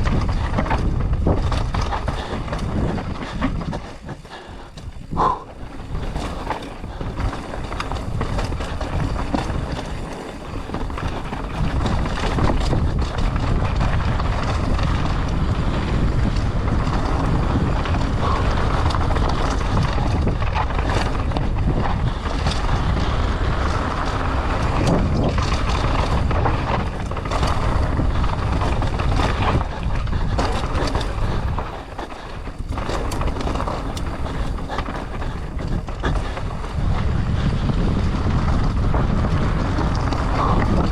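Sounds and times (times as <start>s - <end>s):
bike rattling and knocking: 0.0s - 40.9s
tyres over dirt and rock: 0.0s - 40.9s
wind rushing over microphone: 0.0s - 40.9s.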